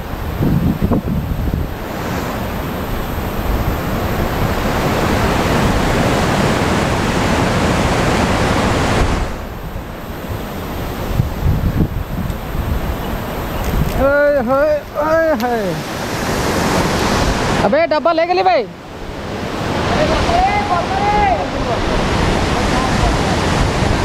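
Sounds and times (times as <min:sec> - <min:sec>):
wind gusting across microphone: 0:00.0 - 0:24.0.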